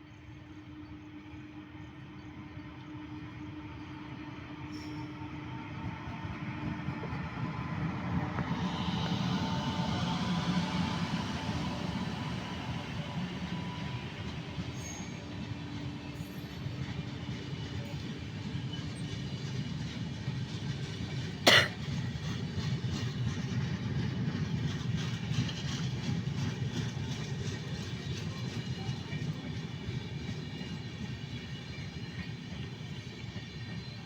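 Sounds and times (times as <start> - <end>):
train rolling with low rumble: 0.0 - 34.0.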